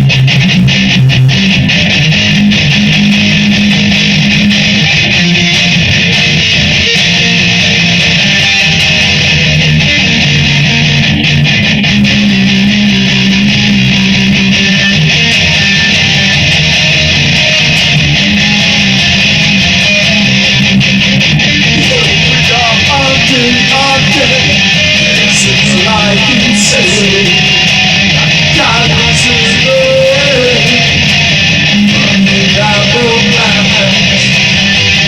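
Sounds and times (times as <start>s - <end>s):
guitar playing: 0.0s - 35.0s.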